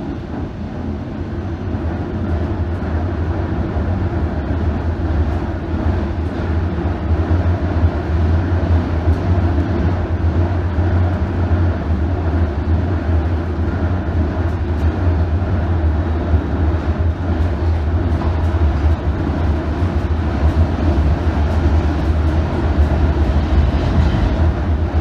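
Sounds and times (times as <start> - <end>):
train rumbling along track: 0.0 - 25.0.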